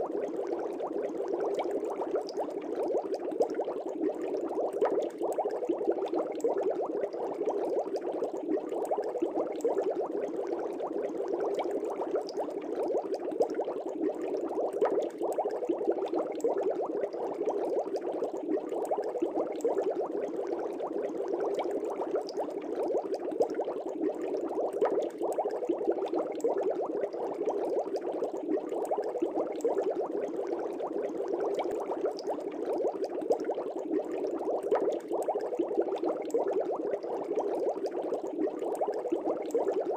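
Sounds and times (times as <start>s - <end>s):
aquarium air bubbling: 0.0s - 39.9s.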